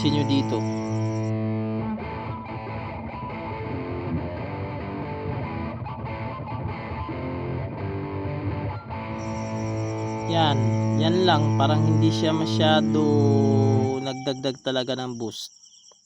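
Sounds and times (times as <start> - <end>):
distorted electric guitar lead: 0.0 - 14.6.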